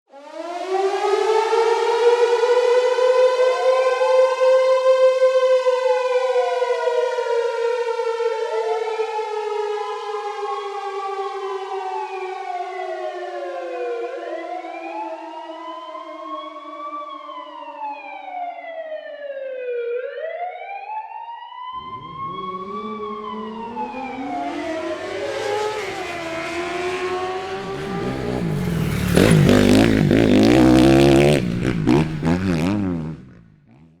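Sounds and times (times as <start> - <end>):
siren-like wailing: 0.1 - 33.0.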